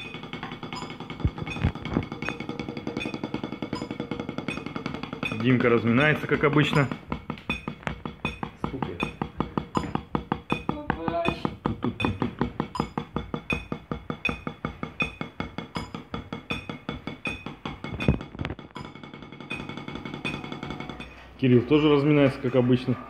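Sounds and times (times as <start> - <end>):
heavier knock: 0.0 - 21.2
drumsticks on practice pad: 0.0 - 21.4.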